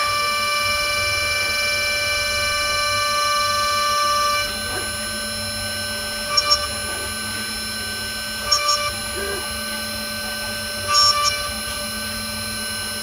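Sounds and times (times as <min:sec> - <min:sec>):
mill spindle whining: 0:00.0 - 0:13.0.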